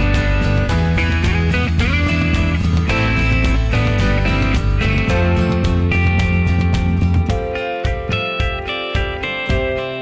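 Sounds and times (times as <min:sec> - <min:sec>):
background guitar music: 0:00.0 - 0:10.0.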